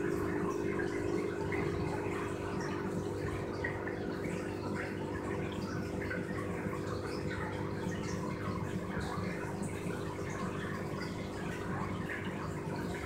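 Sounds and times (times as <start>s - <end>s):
filter water trickling and bubbling: 0.0s - 13.0s
low pump hum: 0.0s - 13.0s.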